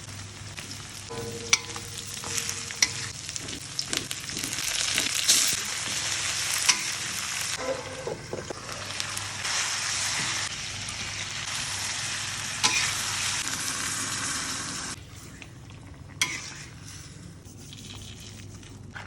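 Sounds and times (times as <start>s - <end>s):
food sizzling in a pan: 0.0s - 15.0s, 16.2s - 17.2s.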